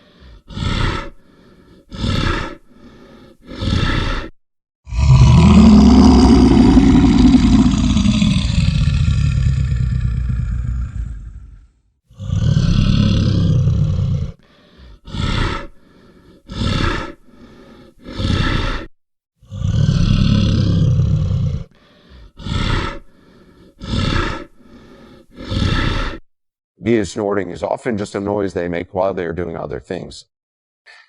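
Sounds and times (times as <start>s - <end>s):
bear roaring: 0.0s - 4.3s, 4.9s - 18.9s, 19.5s - 26.2s.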